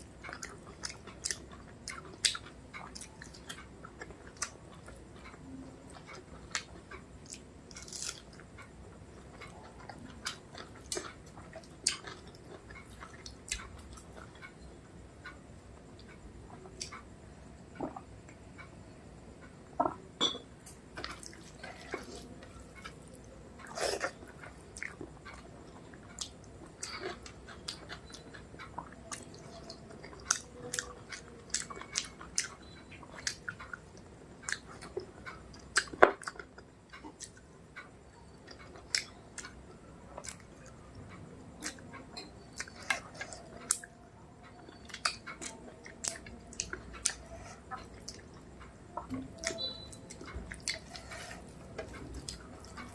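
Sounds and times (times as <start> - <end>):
person chewing food: 0.0 - 14.6, 15.2 - 18.7, 19.7 - 52.9.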